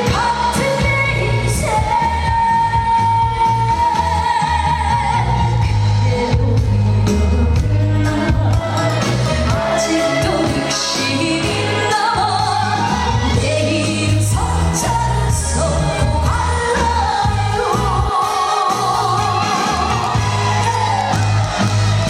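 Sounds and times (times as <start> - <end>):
music accompaniment with bass: 0.0 - 22.0
person singing: 0.0 - 22.0.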